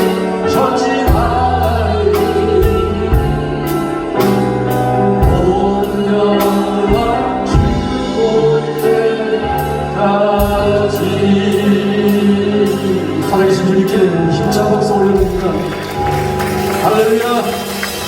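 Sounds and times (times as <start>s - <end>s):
drums keeping steady beat: 0.0s - 18.0s
sustained bass notes: 0.0s - 18.0s
worship singing over a band: 0.0s - 18.0s.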